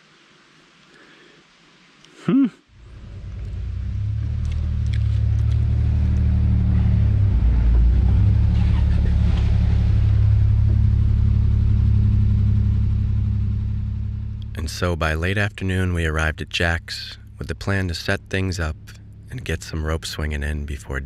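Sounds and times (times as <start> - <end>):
pickup engine rumble: 2.8 - 21.0.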